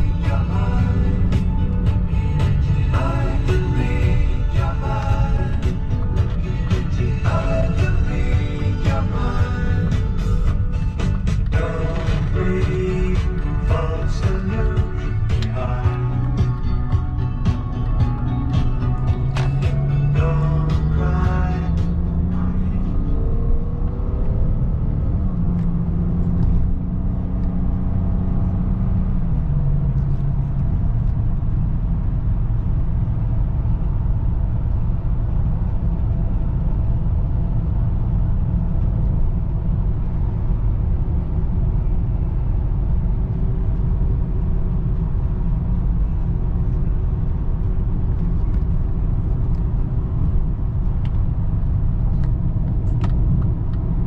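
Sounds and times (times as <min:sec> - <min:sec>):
car engine rumble: 0:00.0 - 0:54.0
road noise: 0:00.0 - 0:54.0.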